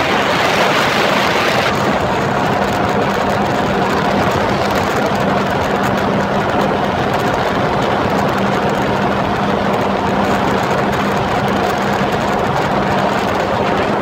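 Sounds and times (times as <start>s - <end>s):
jet ski engine droning: 0.0s - 14.0s
wind and water rushing: 0.0s - 14.0s.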